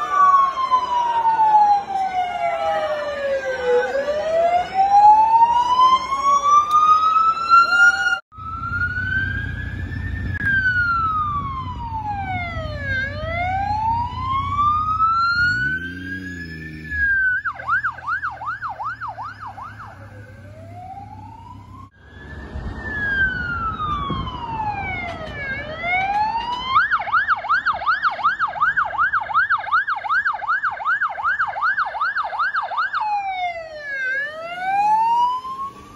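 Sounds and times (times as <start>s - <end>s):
ambulance siren wailing and yelping: 0.0s - 35.9s
low traffic rumble: 0.0s - 35.9s.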